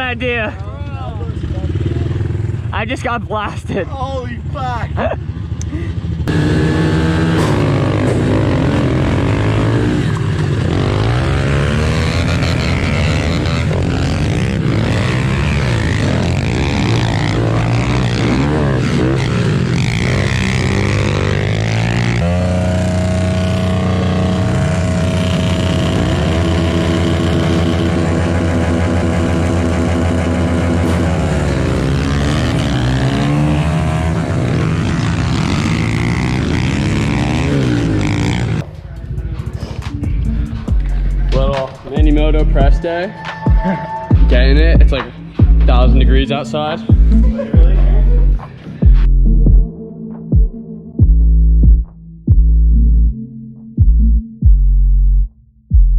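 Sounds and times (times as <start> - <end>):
pit bike engines revving: 0.0 - 49.1.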